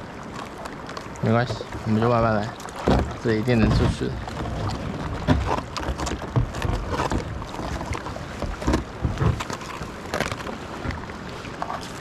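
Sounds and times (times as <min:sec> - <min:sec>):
water noise: 0:00.0 - 0:12.0
ice knocking against kayak hull: 0:00.3 - 0:12.0.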